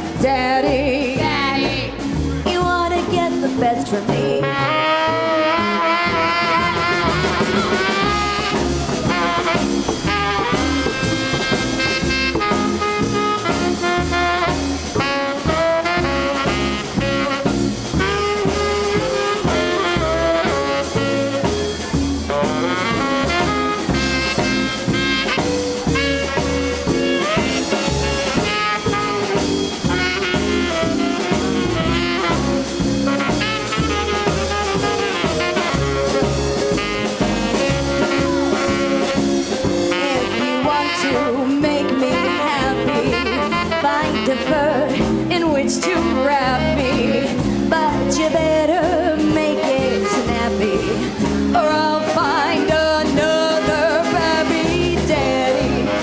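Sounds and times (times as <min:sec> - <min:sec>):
swing band playing: 0:00.0 - 0:56.0
tenor saxophone lead: 0:00.2 - 0:56.0.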